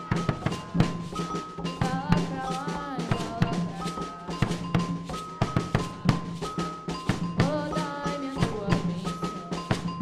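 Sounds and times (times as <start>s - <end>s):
percussion ensemble drumming: 0.0s - 10.0s.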